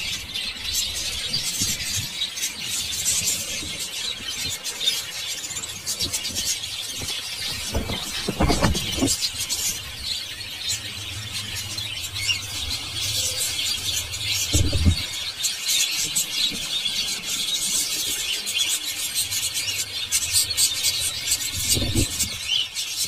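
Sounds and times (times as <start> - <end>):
birds twittering: 0.0 - 23.0.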